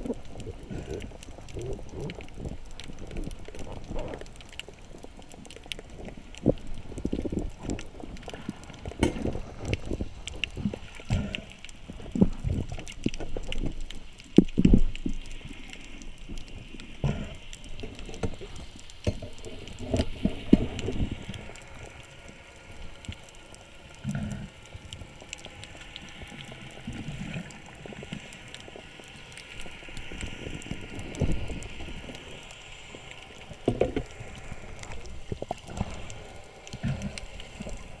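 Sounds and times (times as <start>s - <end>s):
water bubbling: 0.0s - 38.0s
water sloshing and gurgling: 0.0s - 38.0s.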